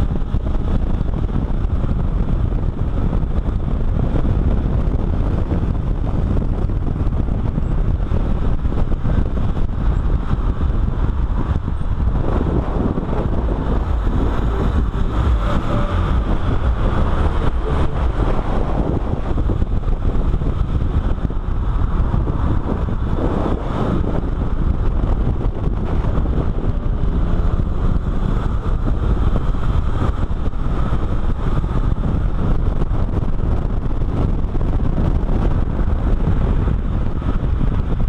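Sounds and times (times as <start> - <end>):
car engine at speed: 0.0 - 38.0
wind on microphone: 0.0 - 38.0.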